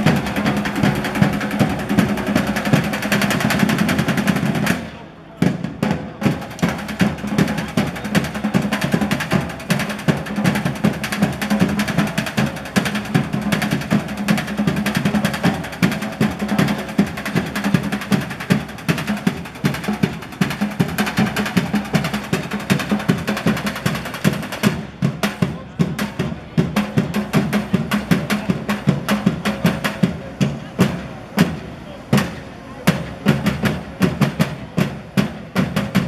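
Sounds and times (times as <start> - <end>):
drum ensemble playing fast rhythm: 0.0 - 36.0.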